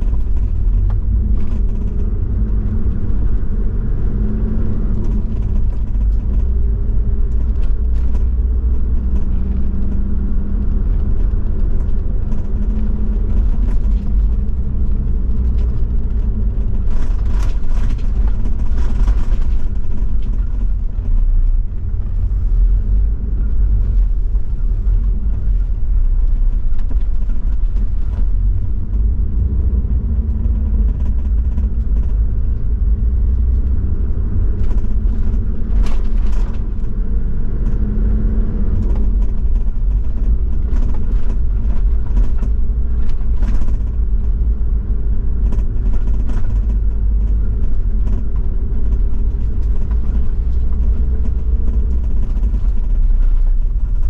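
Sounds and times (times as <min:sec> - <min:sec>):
knocks and rattles: 0:00.0 - 0:22.2, 0:23.4 - 0:54.0
diesel truck engine rumbling: 0:00.0 - 0:54.0.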